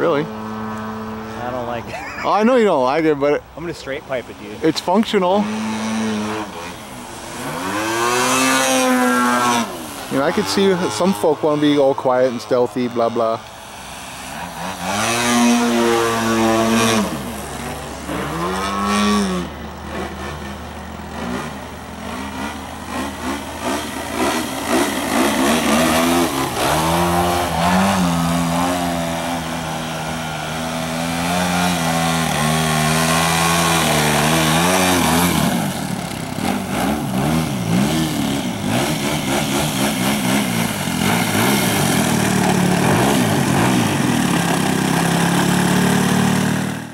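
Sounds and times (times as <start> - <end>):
model plane engine: 4.6 - 46.9.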